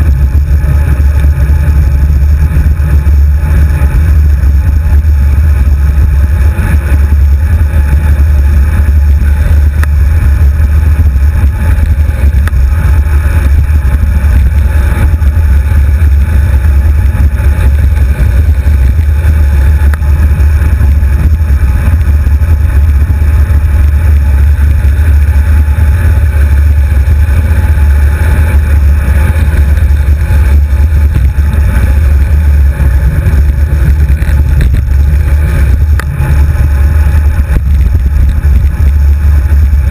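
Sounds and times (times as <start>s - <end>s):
road vibration rumble: 0.0s - 39.9s
wind buffeting microphone: 0.0s - 39.9s.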